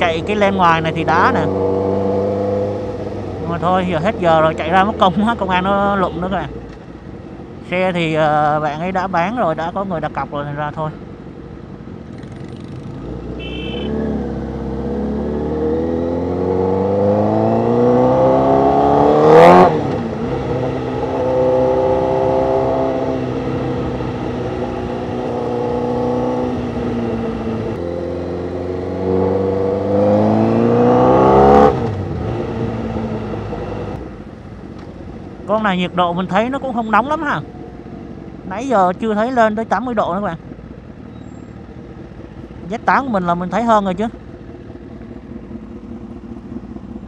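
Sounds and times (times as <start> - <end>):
motorcycle engine accelerating: 0.0 - 7.4, 11.8 - 38.5, 40.4 - 47.0.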